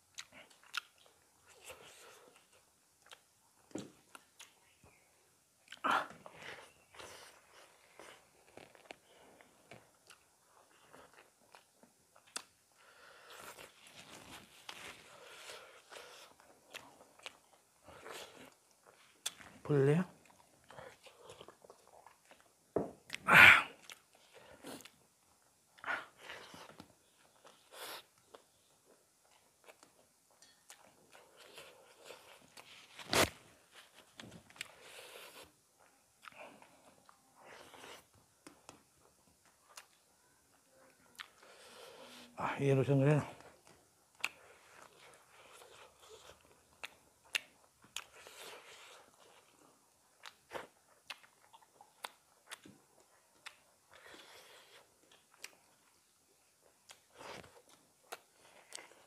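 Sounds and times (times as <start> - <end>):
faint chewing: 0.0 - 5.0, 5.6 - 42.4, 43.0 - 59.0.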